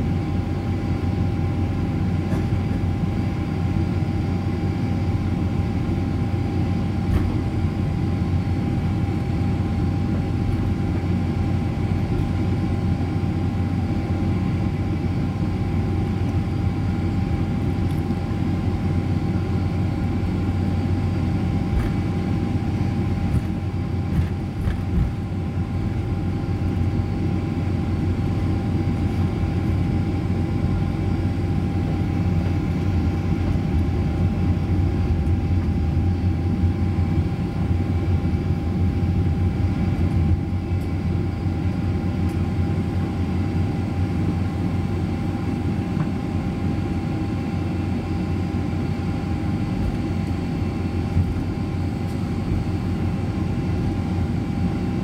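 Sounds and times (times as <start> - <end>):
constant whine: 0.0 - 55.0
low engine rumble in cabin: 0.0 - 55.0.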